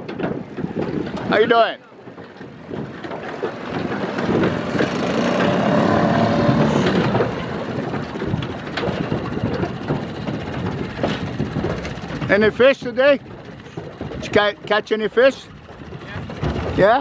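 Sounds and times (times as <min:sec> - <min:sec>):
outboard motor passing by: 0:00.0 - 0:17.0.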